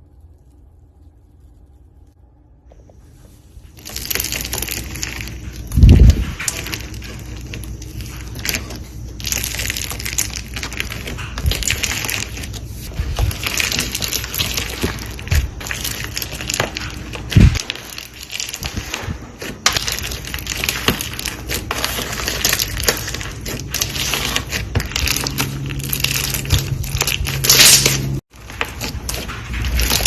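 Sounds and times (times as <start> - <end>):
brittle material crunching: 3.7 - 30.0.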